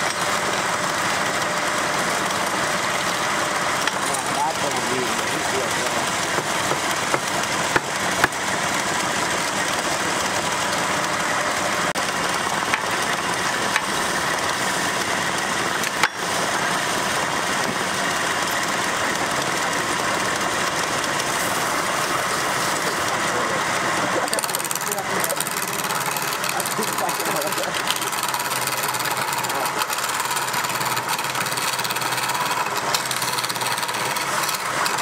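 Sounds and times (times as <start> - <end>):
wood lathe gouge scraping hiss: 0.0 - 35.0.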